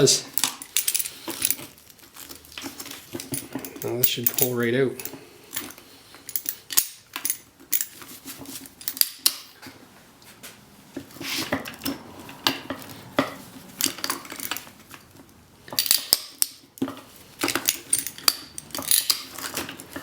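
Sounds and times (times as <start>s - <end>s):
steel cable clinking and scraping: 0.0s - 9.7s, 10.4s - 20.0s.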